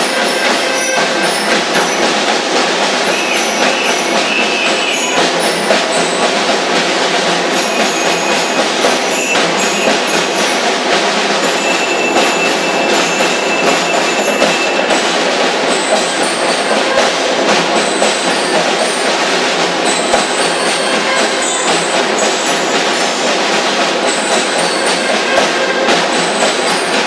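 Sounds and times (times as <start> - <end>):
marching snare drums rattling: 0.0 - 27.0.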